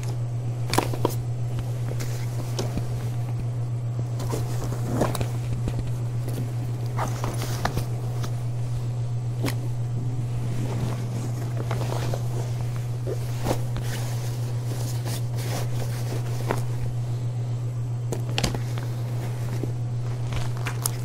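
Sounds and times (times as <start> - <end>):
fabric and gear rustling: 0.0 - 17.1, 18.2 - 21.0
low steady hum: 0.0 - 21.0.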